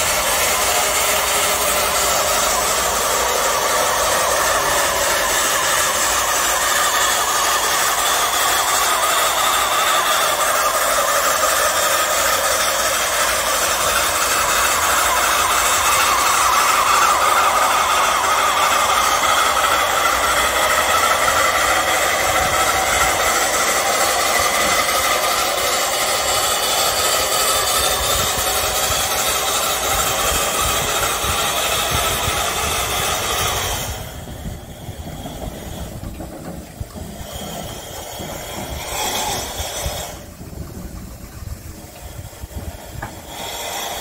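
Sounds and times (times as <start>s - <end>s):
steam hissing: 0.0s - 44.0s.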